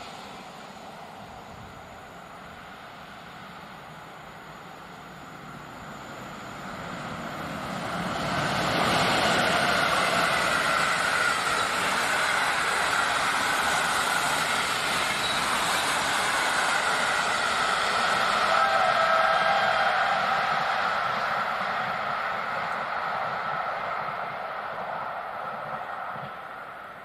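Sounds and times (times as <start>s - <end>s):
passing train rumble: 0.0s - 27.0s.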